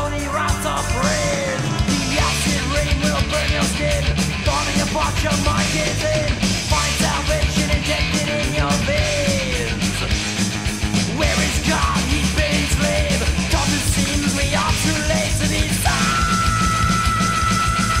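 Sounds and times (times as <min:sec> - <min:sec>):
distorted electric guitars: 0:00.0 - 0:18.0
fast dense drumming: 0:00.0 - 0:18.0.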